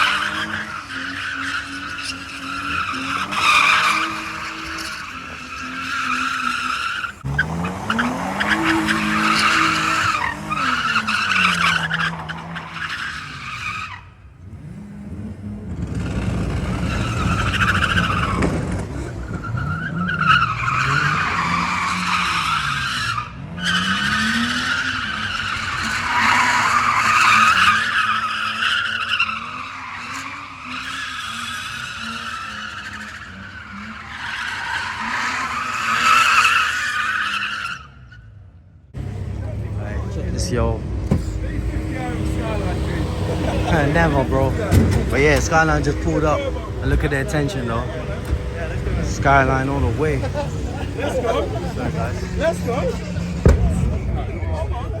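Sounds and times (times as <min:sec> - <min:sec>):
tyres squealing: 0:00.0 - 0:14.1, 0:15.8 - 0:38.2, 0:39.0 - 0:55.0
car engine revving: 0:00.0 - 0:38.0, 0:38.9 - 0:55.0.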